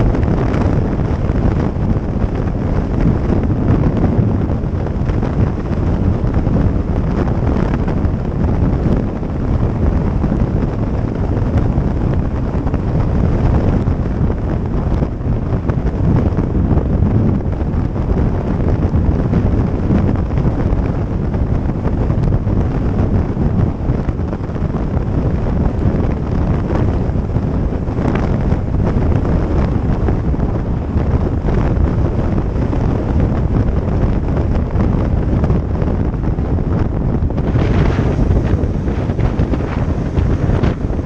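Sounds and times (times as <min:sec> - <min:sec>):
motorcycle running noise: 0:00.0 - 0:41.0
wind buffeting microphone: 0:00.0 - 0:41.0.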